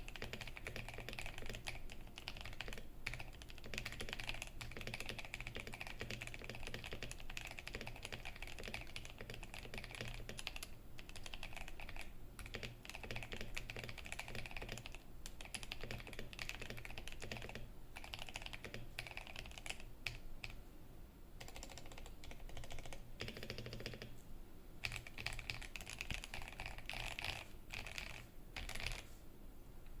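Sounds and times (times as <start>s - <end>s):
mechanical keyboard typing: 0.0s - 20.6s, 21.4s - 24.2s, 24.8s - 29.1s.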